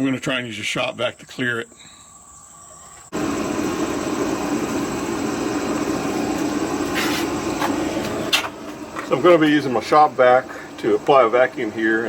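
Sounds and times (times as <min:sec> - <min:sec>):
shop vac motor humming: 0:01.8 - 0:12.0.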